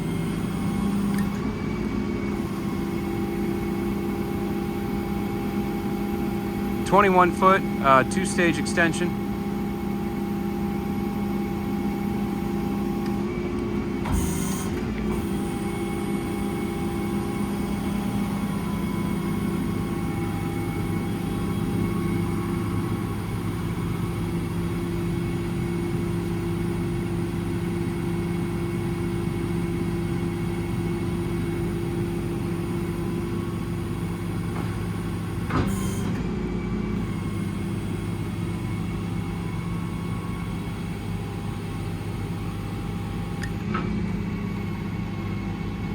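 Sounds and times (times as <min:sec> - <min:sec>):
diesel engine and hydraulics humming: 0:00.0 - 0:45.9.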